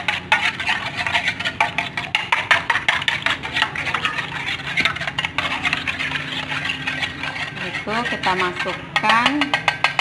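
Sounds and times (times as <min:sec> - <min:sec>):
spoon beating egg in plate: 0:00.0 - 0:10.0.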